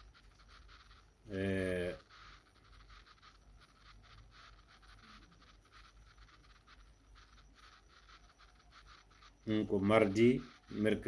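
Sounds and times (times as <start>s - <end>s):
light irregular crackle: 0.0s - 11.0s.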